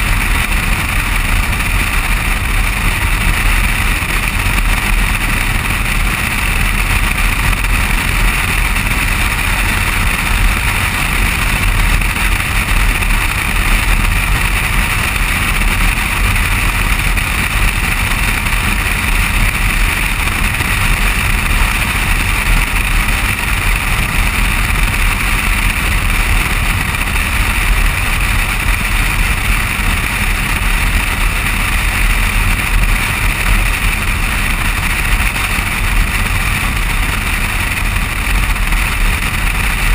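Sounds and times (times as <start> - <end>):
deep rumble: 0.0 - 39.9
wind and tyre noise: 0.0 - 39.9.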